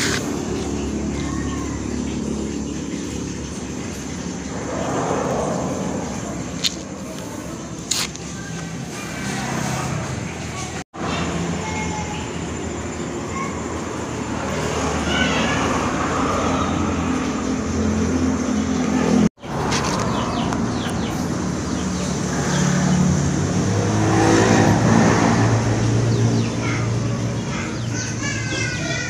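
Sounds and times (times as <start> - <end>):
motor vehicle engine running: 0.0 - 29.0.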